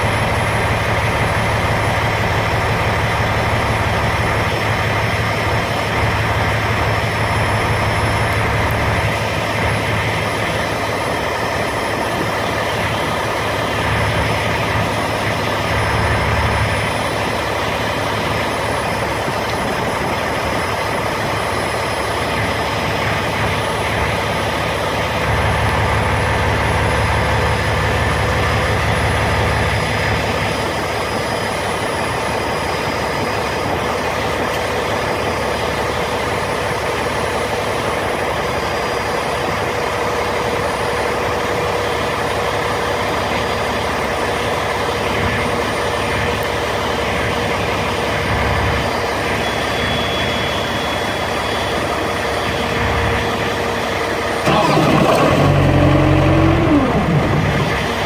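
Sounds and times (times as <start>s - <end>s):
refrigeration unit diesel engine: 0.0s - 58.0s.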